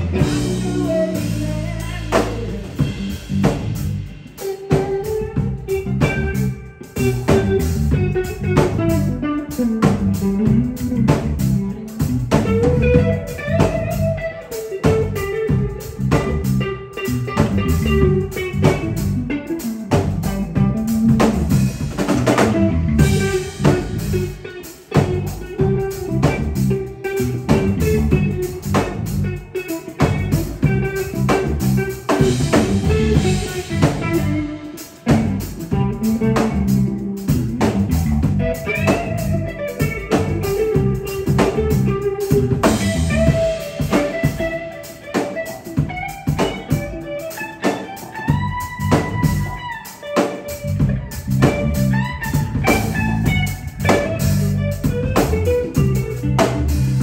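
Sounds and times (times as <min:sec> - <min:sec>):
electric guitar lead lines: 0:00.0 - 0:57.0
live reggae band playing: 0:00.0 - 0:57.0.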